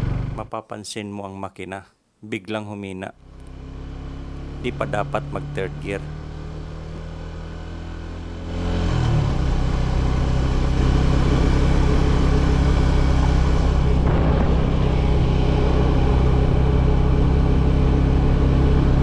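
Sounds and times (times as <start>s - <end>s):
motorcycle engine pulling uphill: 0.0s - 0.5s, 3.2s - 19.0s.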